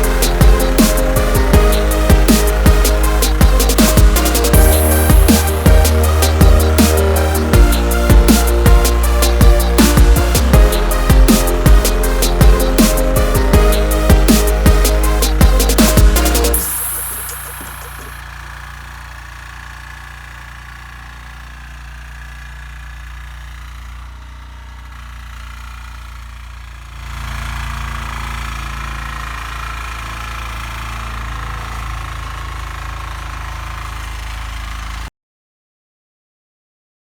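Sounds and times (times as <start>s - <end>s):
cultivator engine running: 0.0s - 35.1s.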